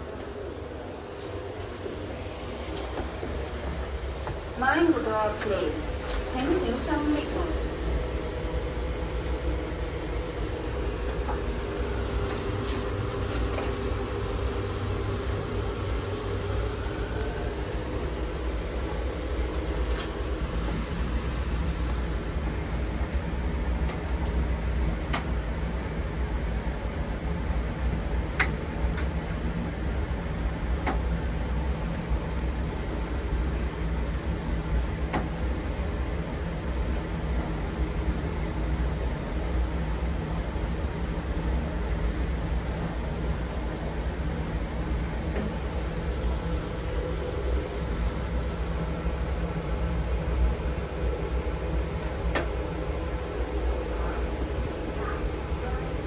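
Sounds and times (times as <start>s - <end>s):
lift hum and rumble: 0.0s - 56.0s.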